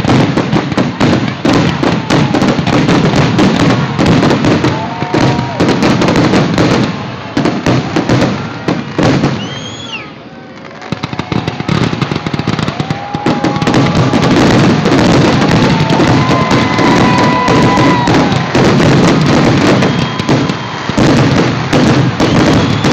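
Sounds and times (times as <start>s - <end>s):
fireworks bangs and crackling: 0.0s - 22.9s
whistling fireworks: 0.0s - 22.9s.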